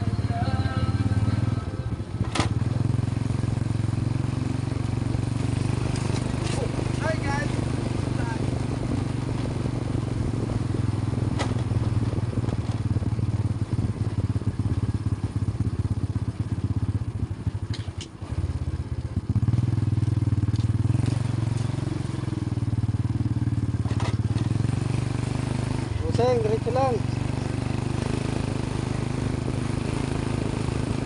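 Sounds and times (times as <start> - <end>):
small motorcycle engine running: 0.0 - 31.0.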